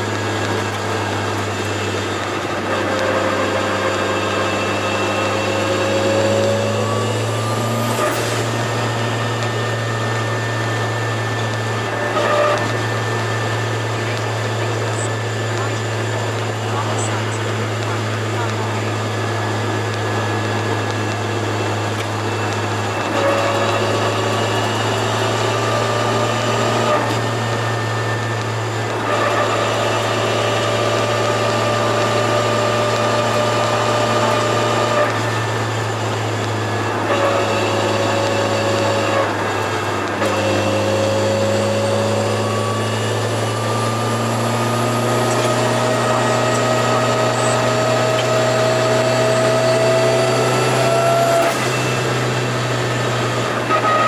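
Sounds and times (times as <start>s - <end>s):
car engine and exhaust revving: 0.0s - 54.0s.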